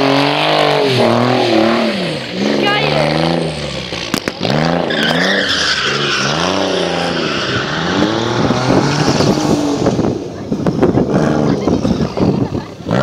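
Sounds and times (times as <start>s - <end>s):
car engine revving: 0.0s - 13.0s
tyres skidding on wet tarmac: 0.0s - 13.0s.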